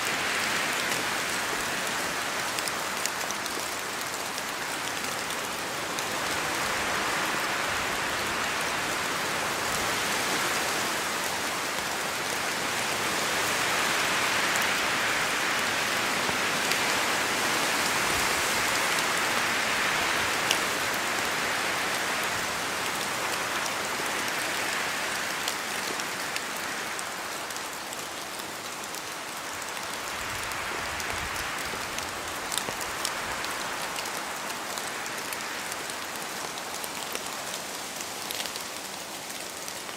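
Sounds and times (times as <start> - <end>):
rain: 0.0 - 39.9
wind in a forest: 0.0 - 39.9.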